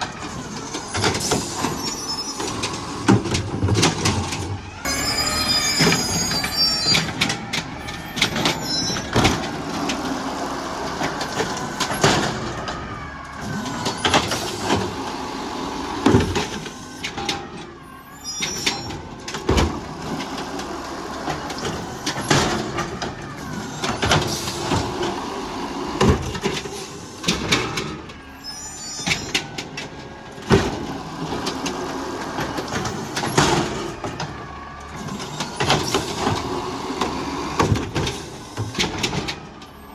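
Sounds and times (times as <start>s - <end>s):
carts banging and knocking: 0.0s - 17.8s, 18.4s - 28.2s, 29.0s - 39.8s
garbage truck engine revving: 0.0s - 39.9s
hydraulic whine: 0.0s - 39.9s.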